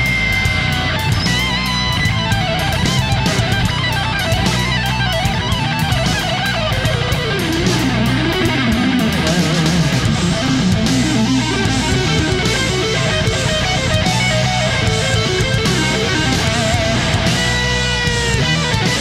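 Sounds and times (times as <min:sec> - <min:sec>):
electric guitar lead: 0:00.0 - 0:19.0
steady drum beat: 0:00.0 - 0:19.0.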